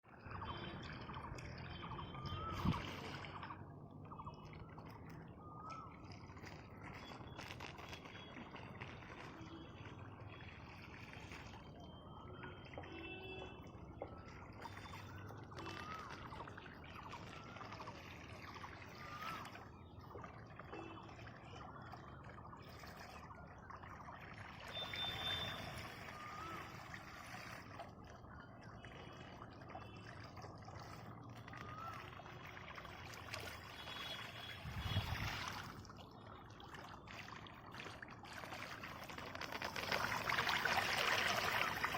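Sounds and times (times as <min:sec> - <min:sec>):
water gushing from a pipe: 0:00.1 - 0:41.9.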